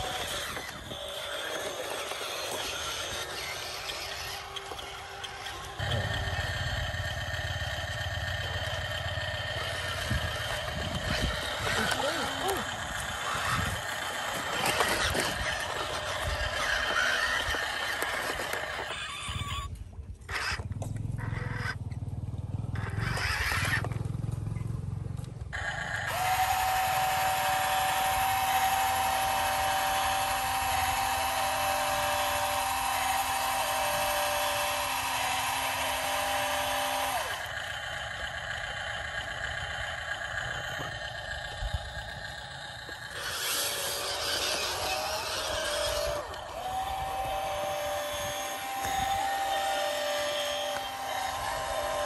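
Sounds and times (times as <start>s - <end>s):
toy electric motors whining: 0.0s - 21.8s, 22.8s - 24.0s, 25.4s - 52.0s.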